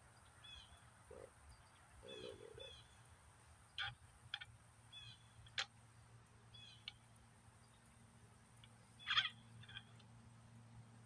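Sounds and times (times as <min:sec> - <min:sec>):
small bird chirping: 0:00.2 - 0:03.1, 0:03.7 - 0:10.1.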